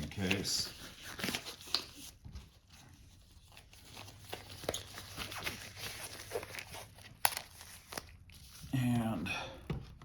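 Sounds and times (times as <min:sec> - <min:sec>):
rubber gloves rustling: 0:00.0 - 0:09.2.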